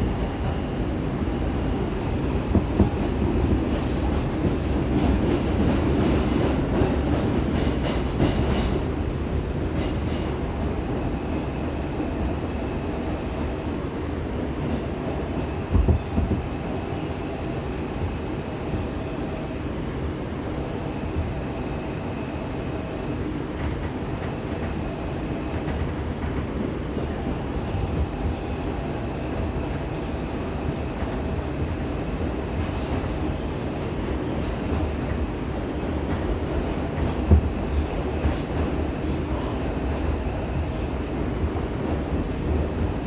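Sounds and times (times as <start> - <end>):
subway train rumble: 0.0 - 43.0.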